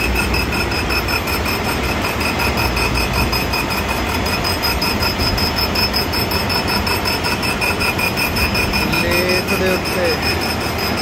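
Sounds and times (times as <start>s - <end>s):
grinder high whine: 0.0s - 11.0s.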